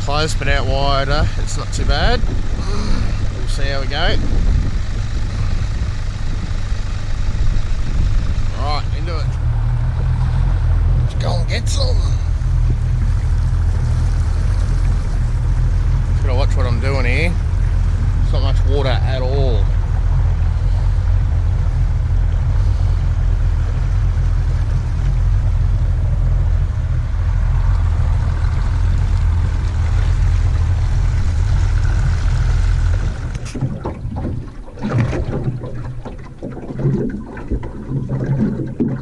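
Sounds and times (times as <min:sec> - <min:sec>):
outboard motor running: 0:00.0 - 0:39.0
water noise: 0:00.0 - 0:39.0
wind: 0:00.0 - 0:39.0.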